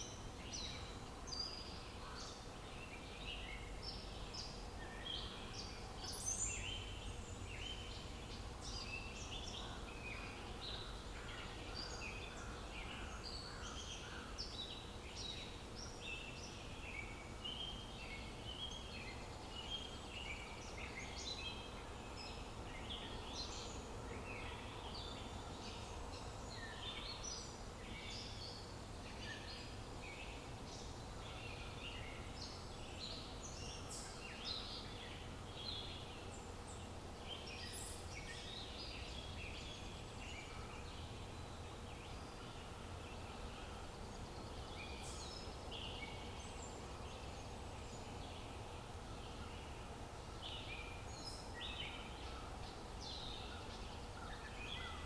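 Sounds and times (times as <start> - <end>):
small birds chirping: 0.0 - 55.0
soft outdoor background hiss: 0.0 - 55.0.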